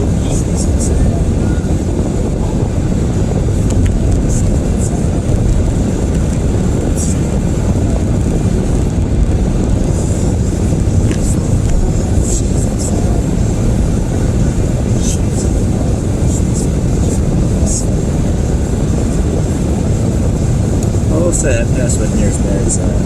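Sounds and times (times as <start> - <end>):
car road and drivetrain rumble: 0.0 - 23.0.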